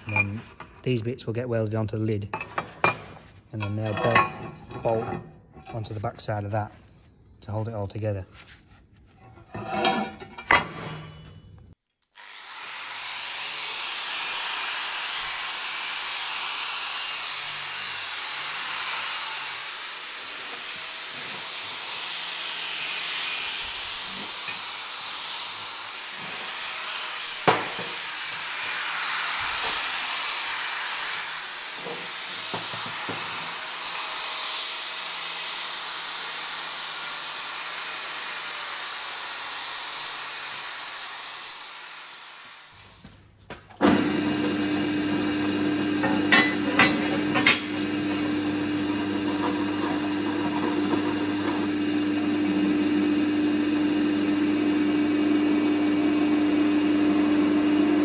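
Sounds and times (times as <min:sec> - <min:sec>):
angle grinder on metal: 0:09.2 - 0:10.7, 0:12.0 - 0:43.1, 0:43.8 - 0:58.0.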